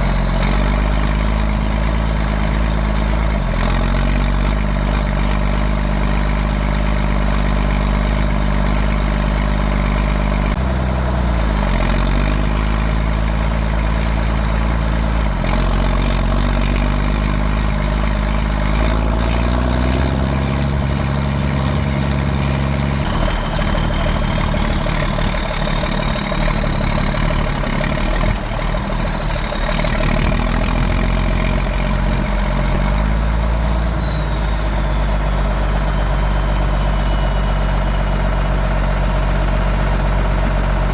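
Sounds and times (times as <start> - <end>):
diesel tractor engine idling: 0.0 - 40.9.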